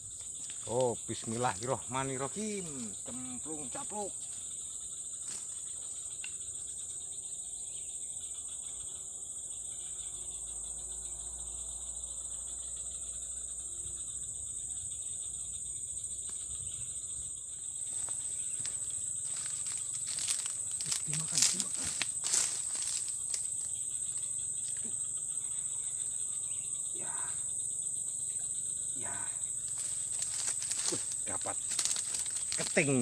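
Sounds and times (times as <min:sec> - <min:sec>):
high-pitched insect chorus: 0:00.0 - 0:33.0.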